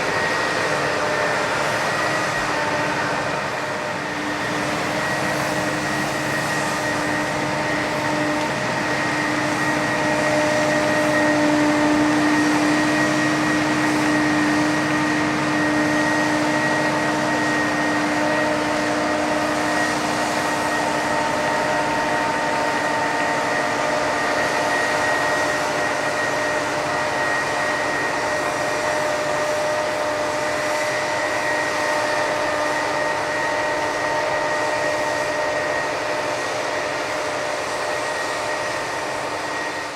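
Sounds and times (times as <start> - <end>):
constant whine: 0.0 - 39.9
machine noise: 0.0 - 39.9.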